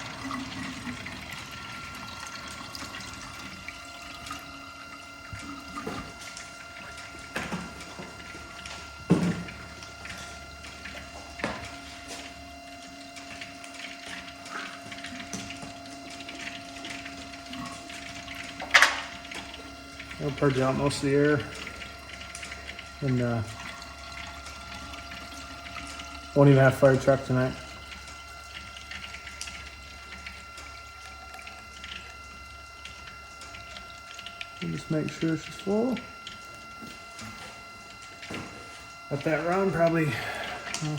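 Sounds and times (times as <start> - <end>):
coolant gurgling and clicking: 0.0 - 40.9
small splashes and drips: 0.0 - 40.9
water pump whining: 0.0 - 40.9.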